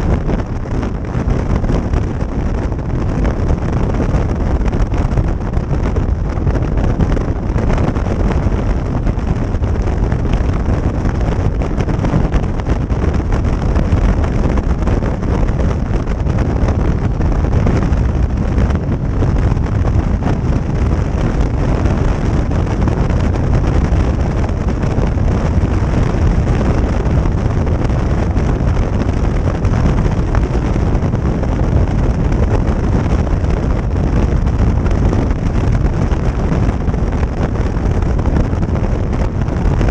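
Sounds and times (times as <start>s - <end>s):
road noise: 0.0s - 39.9s
wind buffeting microphone: 0.0s - 39.9s.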